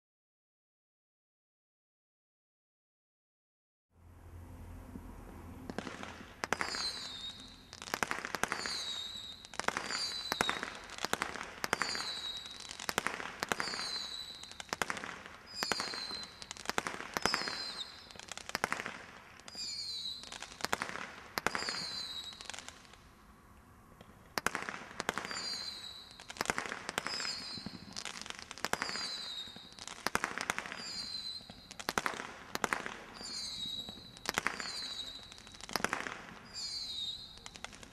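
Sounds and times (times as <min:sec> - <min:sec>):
firework shots: 0:05.6 - 0:23.0, 0:24.0 - 0:37.9
firework whistles: 0:05.7 - 0:23.2, 0:24.0 - 0:37.9.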